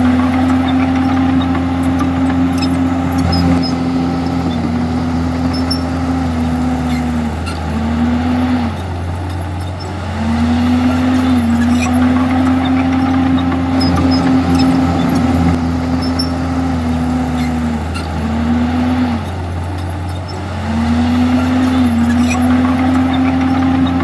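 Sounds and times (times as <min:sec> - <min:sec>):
bulldozer diesel engine rumbling: 0:00.0 - 0:24.0.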